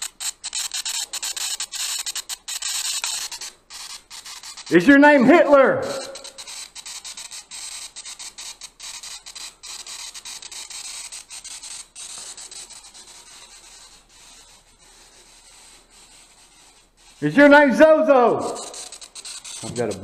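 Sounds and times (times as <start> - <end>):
choppy static hiss: 0.0 - 20.0.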